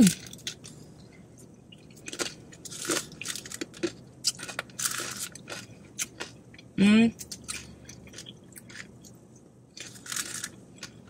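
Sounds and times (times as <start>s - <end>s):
chewing crunchy taco shell: 1.7s - 11.0s.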